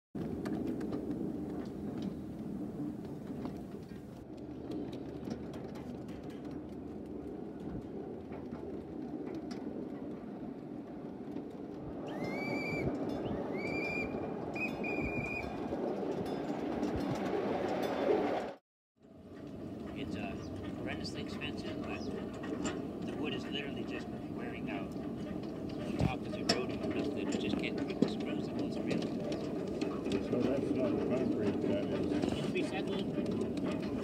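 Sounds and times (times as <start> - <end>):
miniature train rumbling on track: 0.2 - 34.0.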